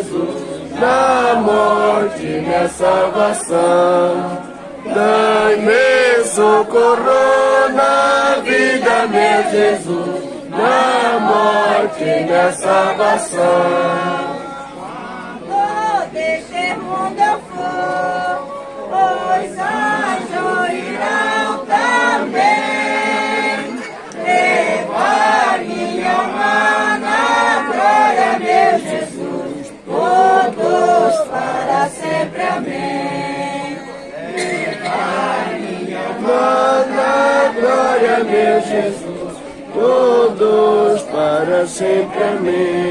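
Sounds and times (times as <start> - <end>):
group singing unaccompanied: 0.0 - 42.9.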